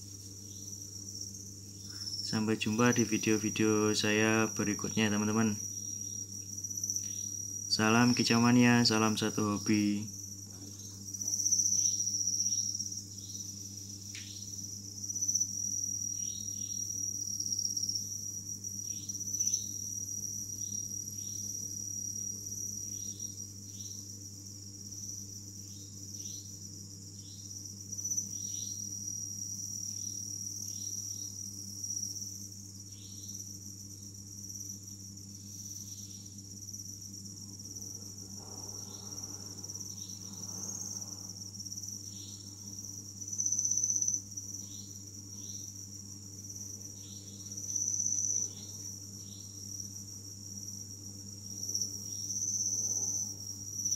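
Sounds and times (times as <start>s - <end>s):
crickets trilling: 0.0s - 53.9s
steady low hum: 0.0s - 53.9s.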